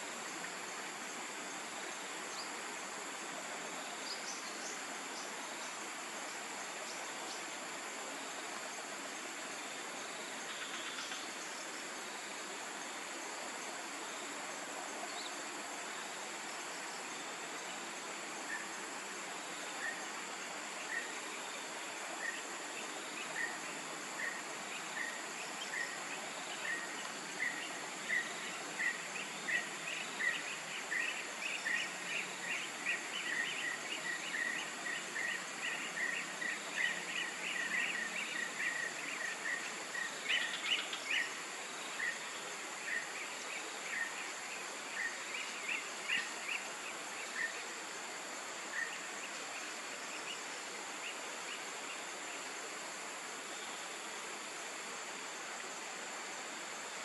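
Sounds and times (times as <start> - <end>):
high insect hum: 0.0 - 57.0.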